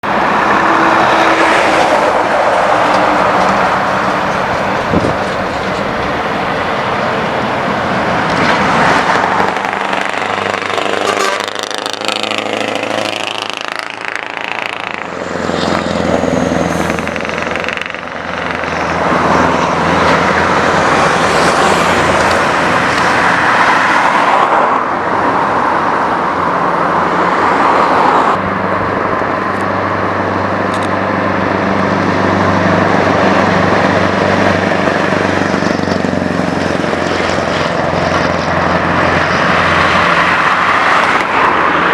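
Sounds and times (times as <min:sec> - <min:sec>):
truck engine running loudly: 0:00.0 - 0:24.2, 0:24.8 - 0:41.9.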